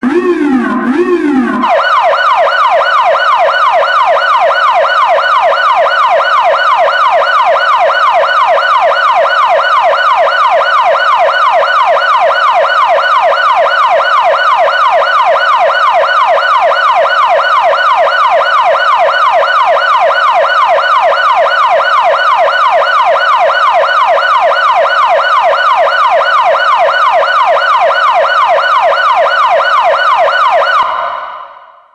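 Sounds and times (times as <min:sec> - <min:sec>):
police siren yelping: 0:00.0 - 0:31.3.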